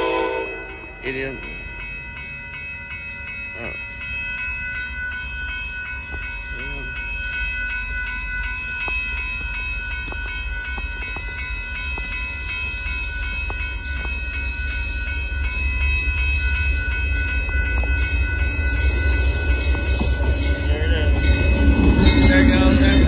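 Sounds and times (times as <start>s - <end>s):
crossing warning bell ringing: 0.0s - 23.0s
train rumbling: 0.0s - 23.0s.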